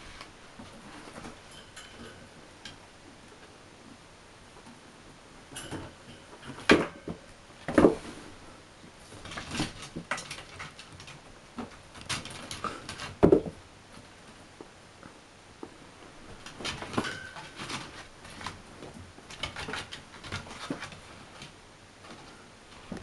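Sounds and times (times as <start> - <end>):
kittens scuffling: 0.0 - 3.5, 4.6 - 14.7, 15.6 - 23.0.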